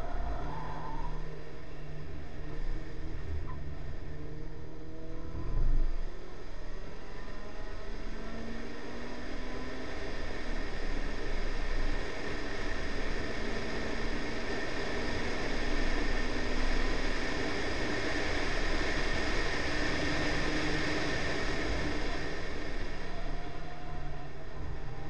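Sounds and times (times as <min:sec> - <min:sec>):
car engine running at speed: 0:00.0 - 0:25.0
tyre road noise: 0:00.0 - 0:25.0.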